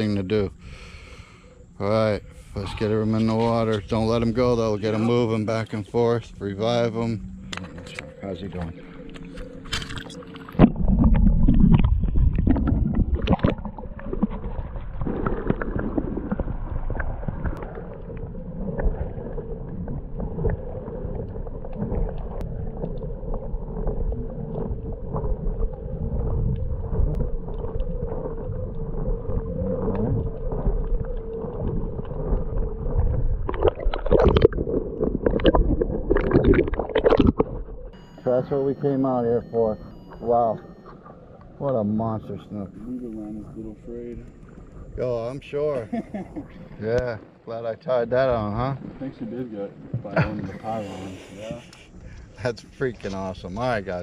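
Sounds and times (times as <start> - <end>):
steady hum: 0.0 - 53.9
muffled underwater sloshing: 0.0 - 54.0.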